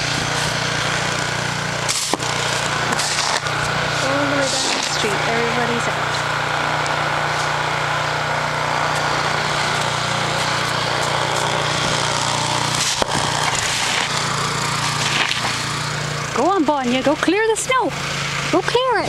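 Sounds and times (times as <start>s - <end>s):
snowblower engine running: 0.0s - 19.0s.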